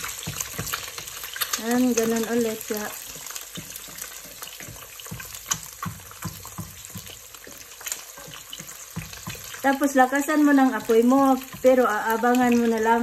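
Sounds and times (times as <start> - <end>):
eggs sizzling in hot oil: 0.0 - 13.0
fat crackling and popping: 0.0 - 13.0.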